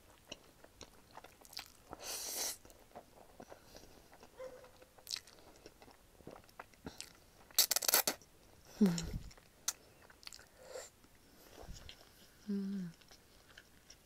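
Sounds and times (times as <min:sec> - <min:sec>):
noodles slurped and chewed: 0:00.0 - 0:08.3, 0:08.9 - 0:14.0.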